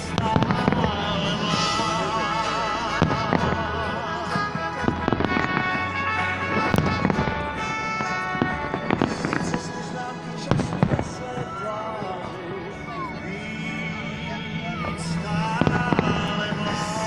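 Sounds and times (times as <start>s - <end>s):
firecrackers banging: 0.0s - 17.0s
pop music playing: 0.0s - 17.0s.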